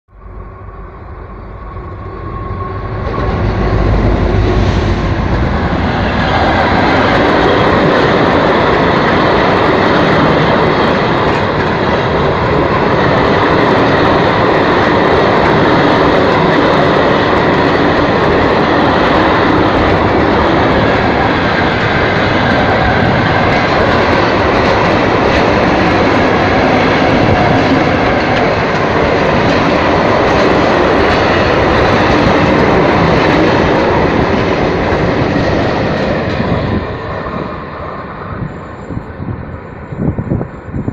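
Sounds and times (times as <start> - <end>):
freight train passing: 0.1 - 40.9
steel wheels rumbling on rail: 0.1 - 40.9.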